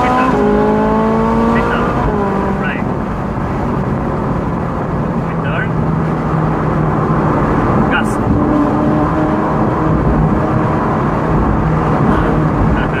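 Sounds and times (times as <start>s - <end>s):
car engine cruising: 0.0s - 13.0s
road and wind noise: 0.0s - 13.0s.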